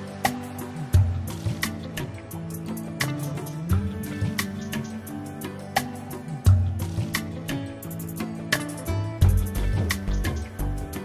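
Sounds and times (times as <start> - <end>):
background music with sustained tones: 0.0 - 11.0.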